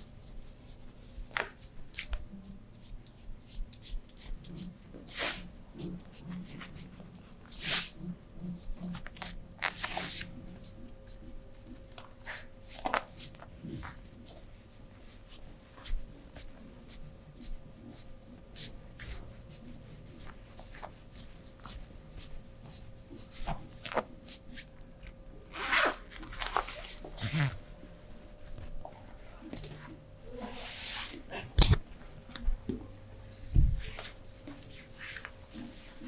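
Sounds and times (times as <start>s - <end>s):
faint steady hum: 0.0s - 36.0s
hands rubbing skin and clothing: 0.2s - 24.7s, 25.5s - 27.6s, 33.3s - 36.0s.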